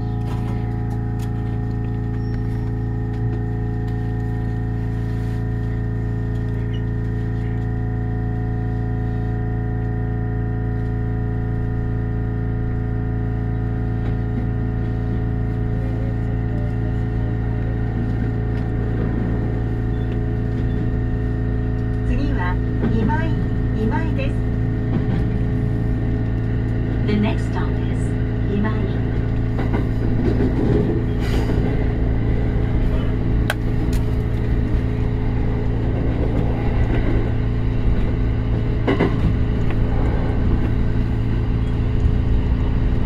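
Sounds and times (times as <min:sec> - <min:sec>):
electric train humming: 0:00.0 - 0:43.0.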